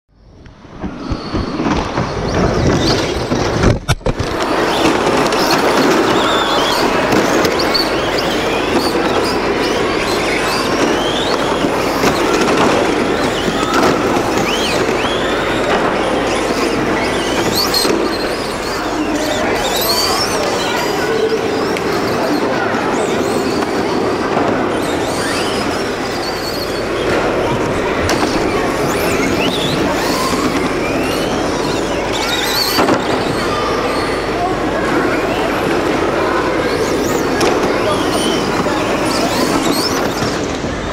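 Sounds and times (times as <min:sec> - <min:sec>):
wheels rolling on carpet: 0:00.4 - 0:40.9.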